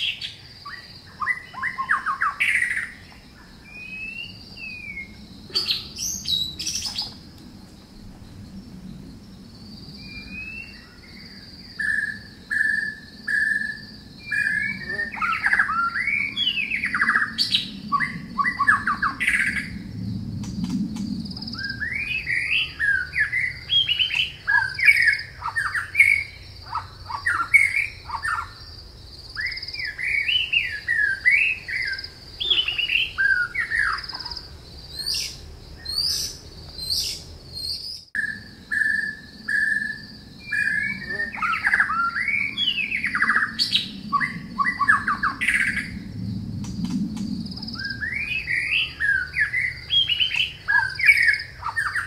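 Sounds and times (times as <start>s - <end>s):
songbirds warbling: 0.0s - 52.0s.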